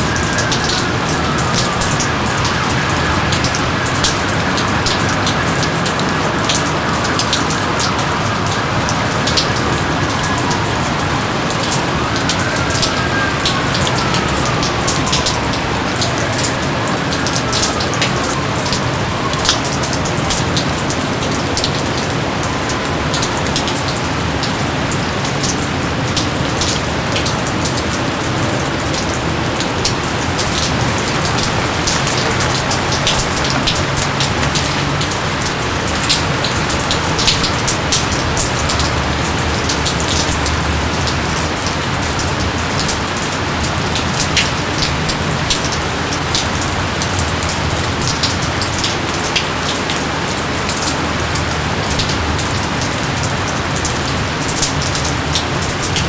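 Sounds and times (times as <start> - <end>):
hiss of downpour: 0.0 - 56.0
rain drops ticking: 0.0 - 56.0.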